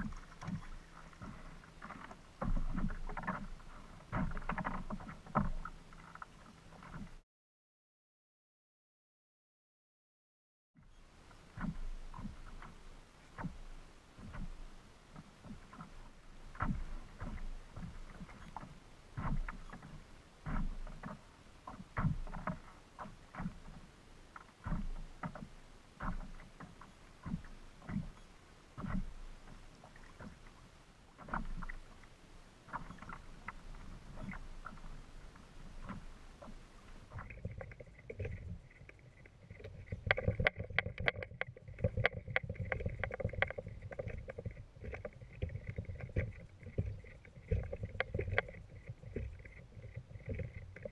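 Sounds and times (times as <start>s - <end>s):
waves slapping kayak hull: 0.0s - 7.2s, 11.1s - 50.9s.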